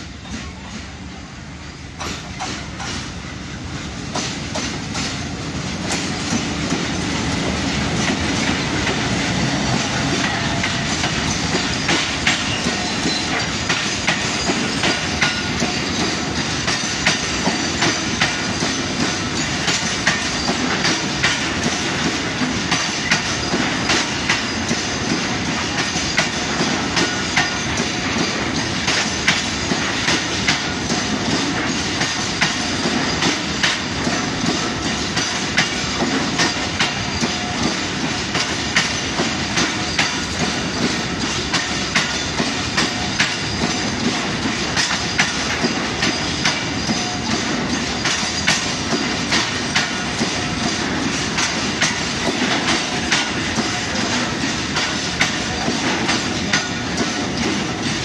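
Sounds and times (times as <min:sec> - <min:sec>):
clickety-clack of wheels over rail joints: 0:00.0 - 0:58.0
freight train rumble: 0:00.0 - 0:58.0.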